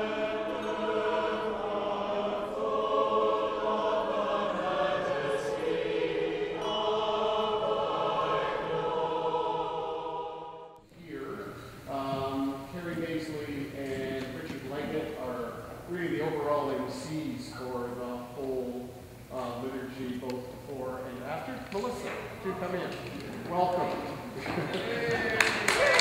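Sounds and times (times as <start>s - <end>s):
choir singing sustained chords: 0.0s - 21.5s.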